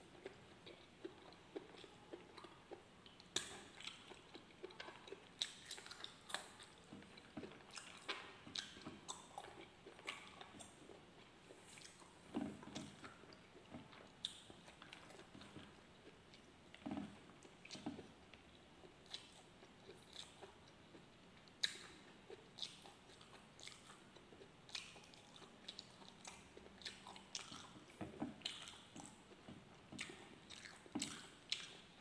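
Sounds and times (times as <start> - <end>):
man chewing: 0.1 - 32.0.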